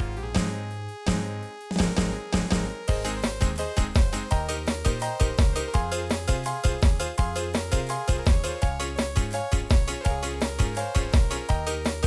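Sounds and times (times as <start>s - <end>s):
keyboard organ music with beat: 0.0s - 12.0s.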